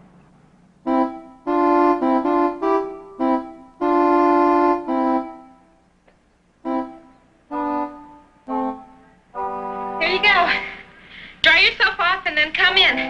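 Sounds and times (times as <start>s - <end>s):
organ-like keyboard chords: 0.0s - 11.4s.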